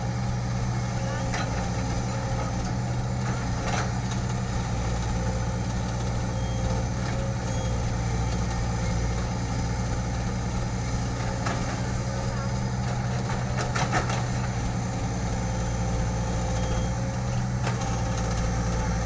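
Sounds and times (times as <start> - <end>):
heavy equipment engine running: 0.0 - 19.0.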